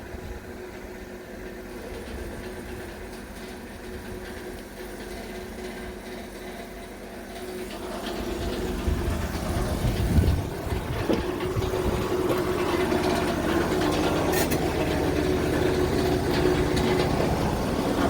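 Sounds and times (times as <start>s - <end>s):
mill machinery droning hum: 0.0s - 18.0s.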